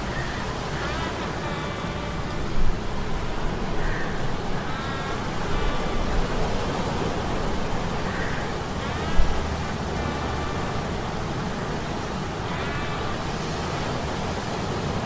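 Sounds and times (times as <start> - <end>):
sea storm rushing: 0.0 - 15.0.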